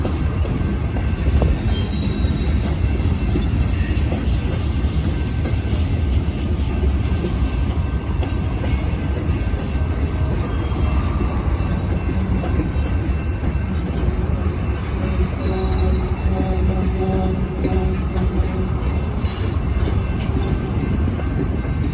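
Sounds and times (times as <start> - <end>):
train wheels rumbling on rails: 0.0 - 21.9
faint high wheel squeal: 0.4 - 5.3, 6.8 - 20.8.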